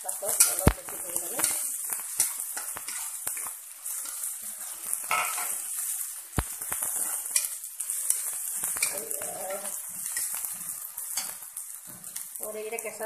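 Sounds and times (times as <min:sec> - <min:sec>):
food sizzling in hot oil: 0:00.0 - 0:13.0
stirring scrapes on pan: 0:00.1 - 0:12.3.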